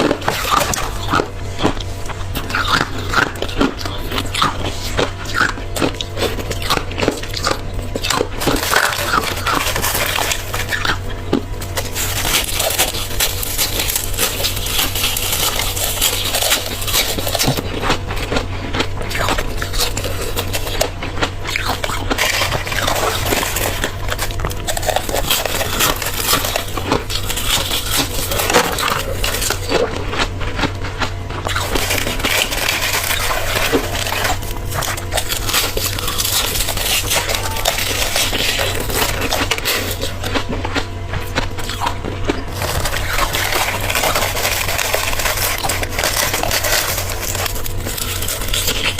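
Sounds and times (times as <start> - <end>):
crunching frozen frost: 0.0 - 48.9
steady low hum: 0.0 - 48.9.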